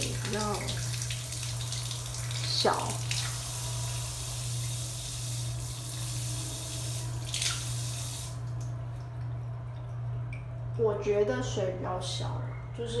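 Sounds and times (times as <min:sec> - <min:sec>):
water splashing from a tap: 0:00.0 - 0:10.6.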